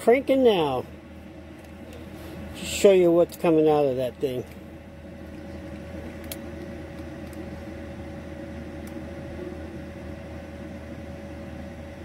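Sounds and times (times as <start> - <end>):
heater blower fan humming: 0.0 - 12.0.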